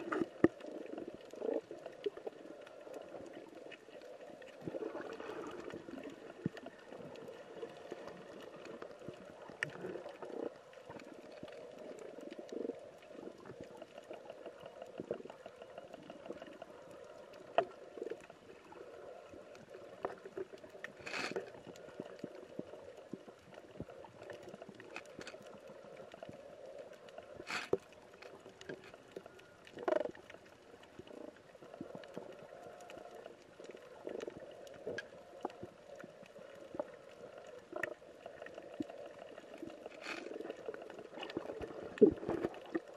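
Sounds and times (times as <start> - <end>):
small underwater clicks: 0.0 - 42.9
underwater low wash: 0.0 - 42.9.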